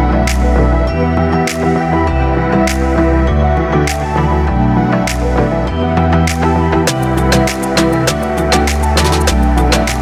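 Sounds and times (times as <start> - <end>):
electronic music with synth and bass: 0.0 - 10.0.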